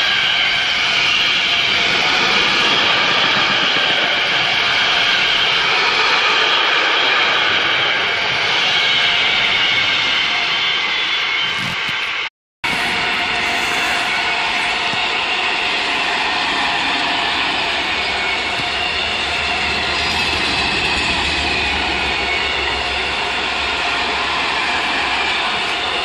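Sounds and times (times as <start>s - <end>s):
steel wheels rolling on rails: 0.0s - 9.8s, 12.7s - 26.0s.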